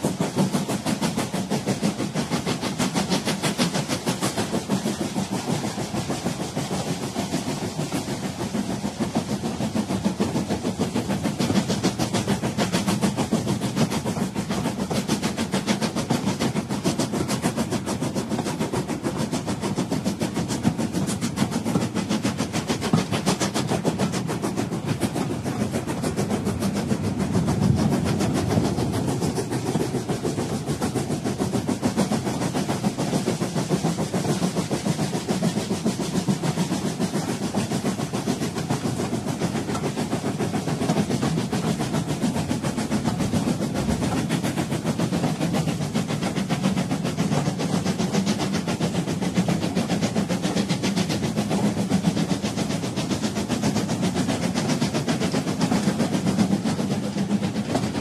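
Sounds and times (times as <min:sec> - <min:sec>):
steam locomotive hauling train: 0:00.0 - 0:58.0.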